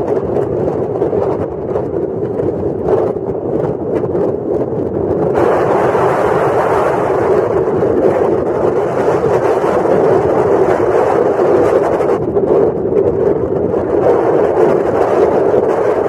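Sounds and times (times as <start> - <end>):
vehicle wind and running noise: 0.0 - 16.0.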